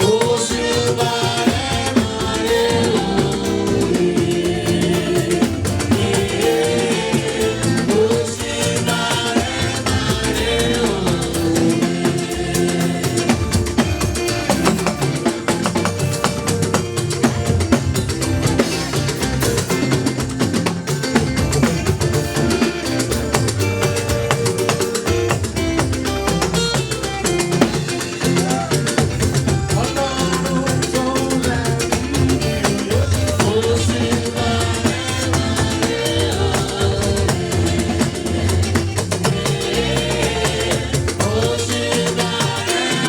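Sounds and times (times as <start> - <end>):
church band playing a hymn: 0.0 - 43.0
drum kit beat: 0.0 - 43.0.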